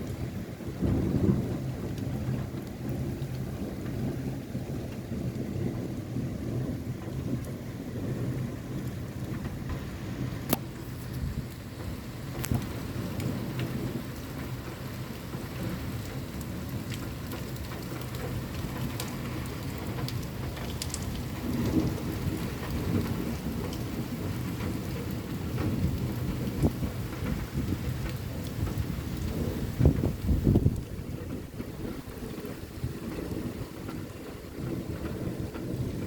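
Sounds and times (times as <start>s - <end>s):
low rumble of thunder: 0.0s - 36.0s
rain tapping on window glass: 0.0s - 36.0s.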